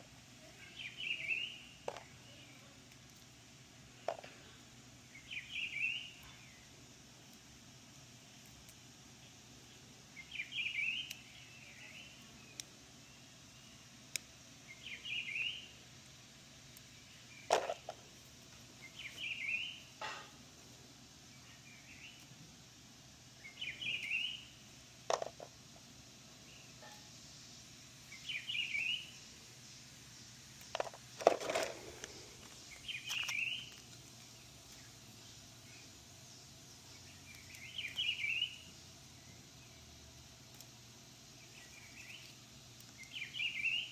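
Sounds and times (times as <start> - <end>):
songbird chirpy song: 0.0 - 43.9.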